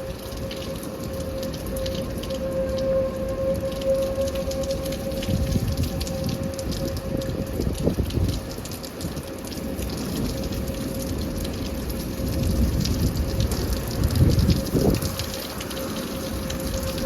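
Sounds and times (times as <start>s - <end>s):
rain pattering: 0.0s - 17.0s
warning siren steady tone: 0.0s - 17.0s.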